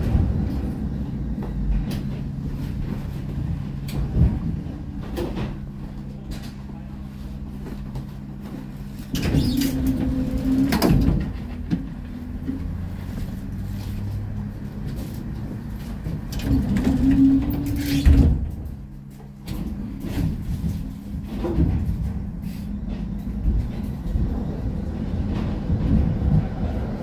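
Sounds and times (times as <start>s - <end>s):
tram running noise: 0.0s - 27.0s.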